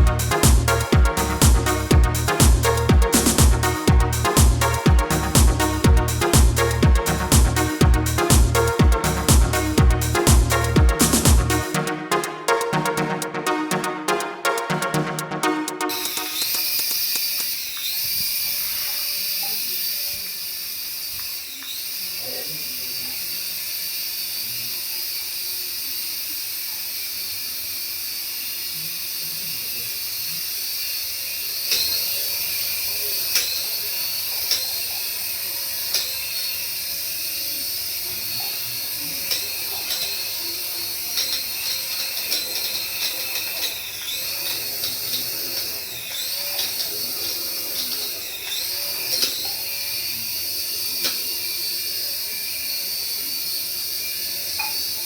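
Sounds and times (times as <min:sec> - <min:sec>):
toy electric motor whine: 0:00.0 - 0:14.6, 0:15.5 - 0:55.0.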